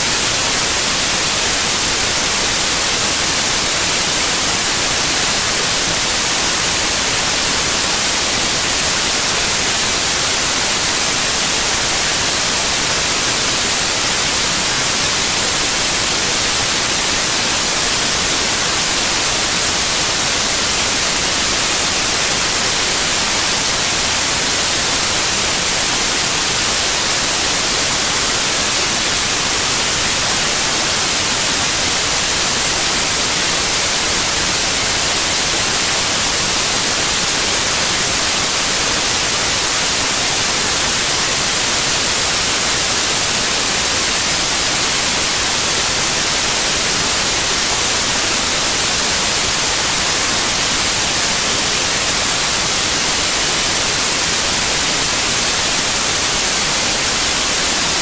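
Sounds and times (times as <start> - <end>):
static hiss: 0.0 - 58.0.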